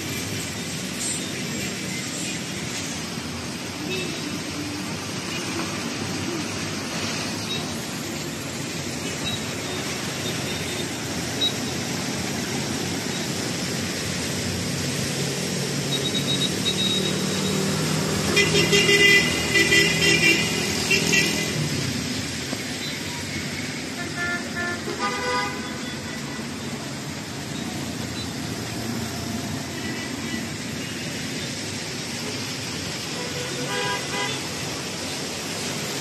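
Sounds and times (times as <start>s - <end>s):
traffic hiss on wet road: 0.0s - 36.0s.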